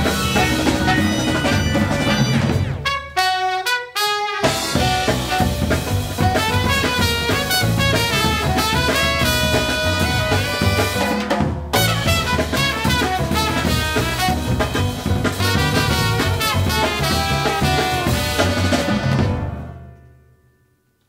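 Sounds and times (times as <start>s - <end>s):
bass: 0.0s - 3.6s, 4.4s - 21.0s
trumpet and saxophone melody: 0.0s - 19.8s
drum kit: 0.0s - 20.2s
piano: 0.0s - 21.0s.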